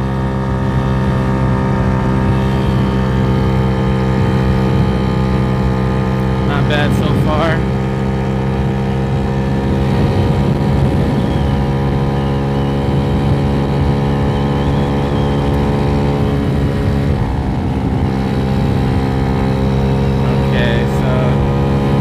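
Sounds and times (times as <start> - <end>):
scooter engine at high revs: 0.0 - 22.0.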